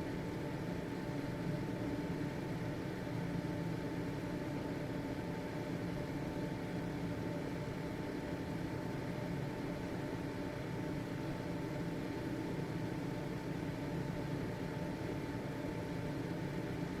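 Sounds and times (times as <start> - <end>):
ventilation fan running: 0.0 - 17.0.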